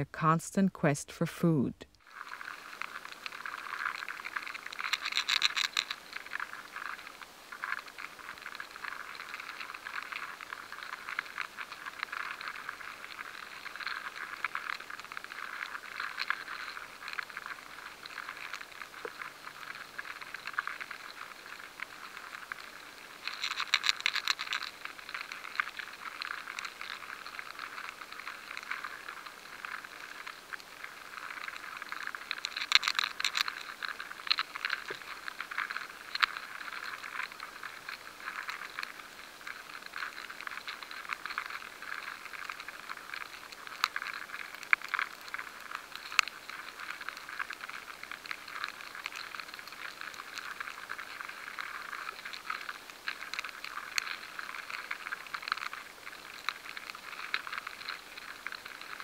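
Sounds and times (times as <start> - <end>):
larvae feeding scratching clicks: 1.9 - 59.0.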